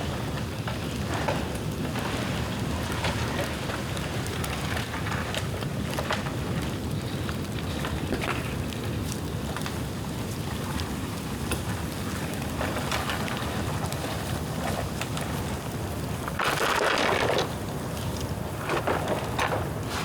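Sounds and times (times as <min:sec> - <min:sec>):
bonfire rumbling and crackling: 0:00.0 - 0:20.0.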